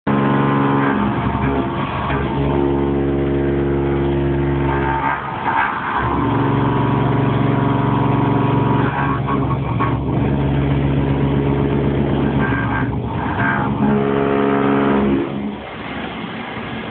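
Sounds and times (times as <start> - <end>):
milling machine cutting metal: 0.1 - 16.9.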